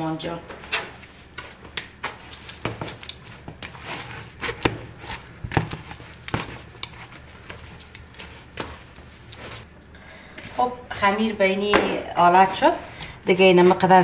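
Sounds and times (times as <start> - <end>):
hands kneading dough: 0.6 - 14.0.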